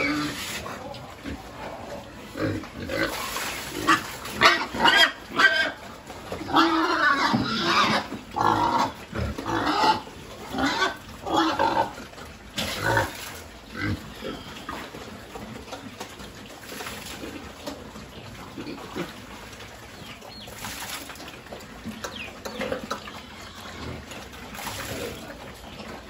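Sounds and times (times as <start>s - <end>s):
pigs squealing and grunting: 0.0s - 26.0s.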